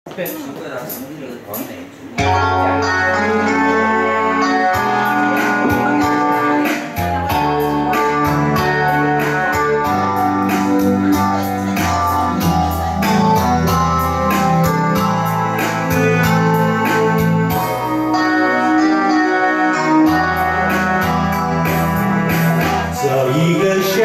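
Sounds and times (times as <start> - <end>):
steady beat: 0.1 - 18.1, 19.9 - 24.0
electronic keyboard: 0.8 - 24.0
held bass notes: 2.2 - 24.0
plucked guitar: 2.2 - 24.0.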